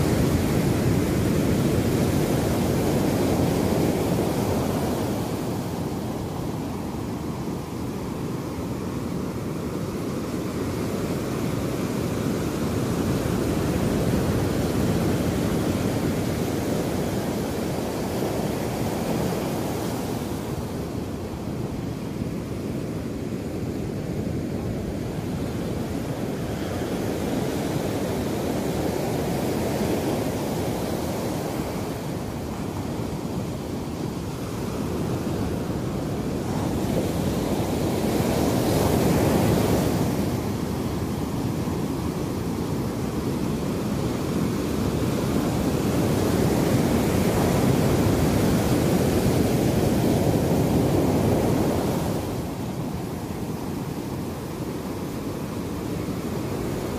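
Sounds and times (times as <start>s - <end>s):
surf washing over beach: 0.0s - 56.9s.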